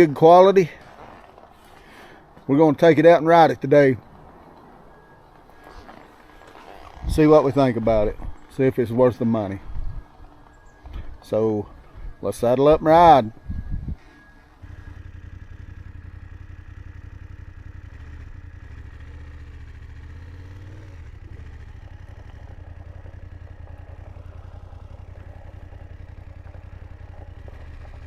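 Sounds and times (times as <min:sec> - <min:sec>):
motorcycle engine running: 0:04.6 - 0:28.0.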